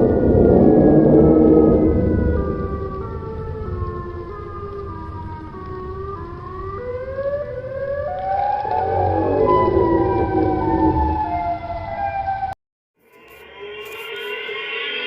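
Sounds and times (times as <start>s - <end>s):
siren-like alarm tones rising: 0.0s - 15.0s.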